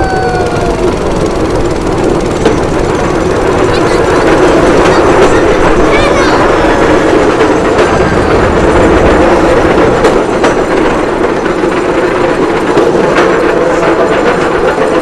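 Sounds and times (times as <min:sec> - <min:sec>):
rail vehicle engine and wheels rumbling: 0:00.0 - 0:15.0
wheels clacking over rail joints: 0:00.0 - 0:15.0.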